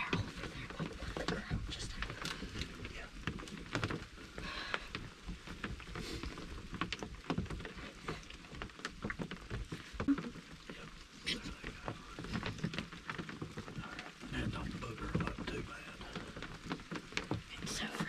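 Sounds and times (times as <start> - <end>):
raindrops pattering on wooden roof: 0.0 - 18.0.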